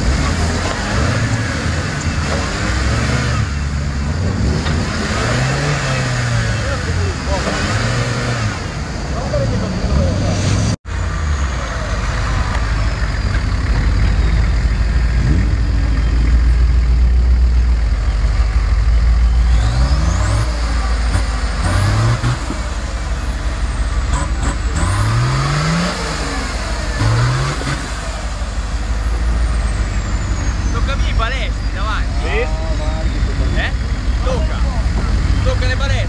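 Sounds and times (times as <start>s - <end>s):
pickup engine rumbling and revving: 0.0s - 36.0s.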